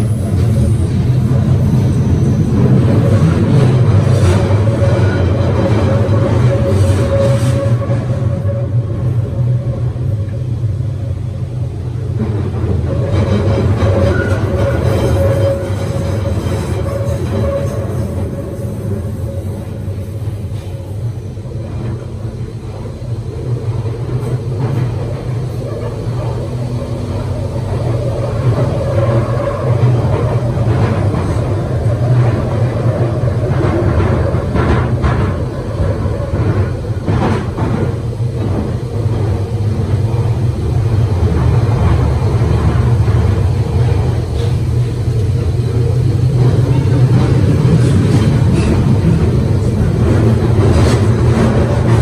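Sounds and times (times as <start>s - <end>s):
train rattle: 0.0s - 52.0s
train rumbling in tunnel: 0.0s - 52.0s.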